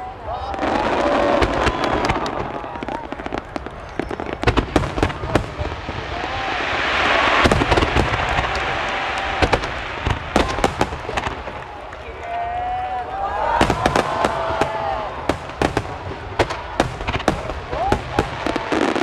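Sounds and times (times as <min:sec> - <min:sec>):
fireworks cracks and bangs: 0:00.4 - 0:12.4, 0:13.4 - 0:19.0
fireworks hissing: 0:00.6 - 0:11.7, 0:13.6 - 0:19.0.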